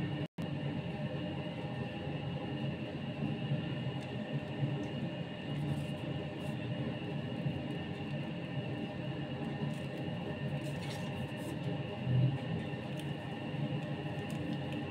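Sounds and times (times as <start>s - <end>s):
droning hum with held tones: 0.0s - 14.9s.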